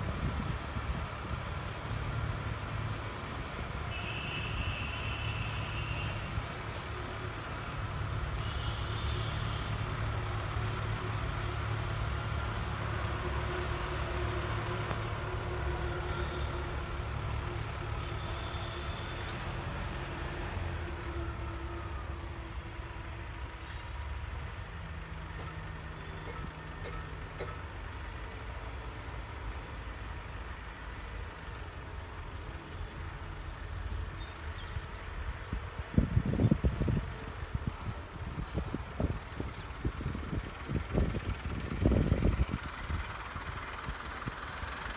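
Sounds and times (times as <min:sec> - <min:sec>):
tractor diesel engine running: 0:05.0 - 0:44.9.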